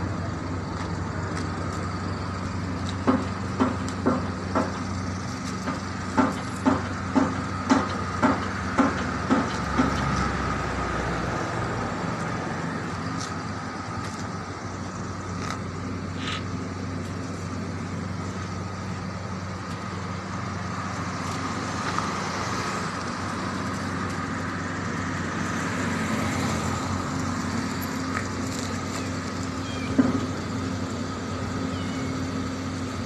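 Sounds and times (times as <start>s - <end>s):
urban street hum: 0.0s - 33.0s.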